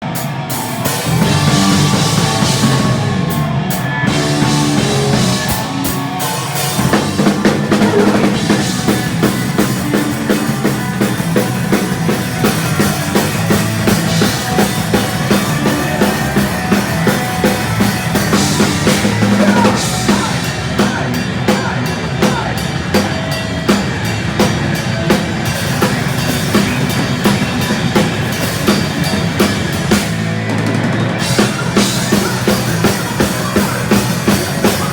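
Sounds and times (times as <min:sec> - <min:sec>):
fast drum beat: 0:00.0 - 0:34.9
heavy metal band playing live: 0:00.0 - 0:34.9.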